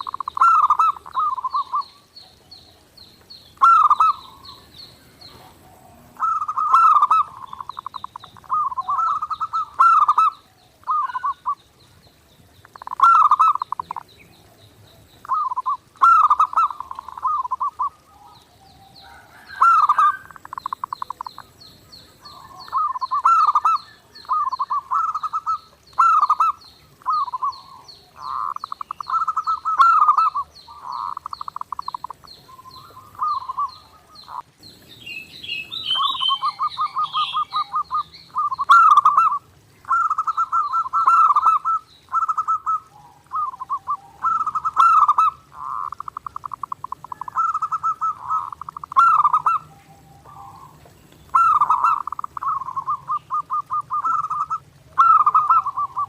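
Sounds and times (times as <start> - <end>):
dove cooing: 0.0 - 2.9, 3.6 - 11.6, 12.6 - 34.5, 35.5 - 56.0.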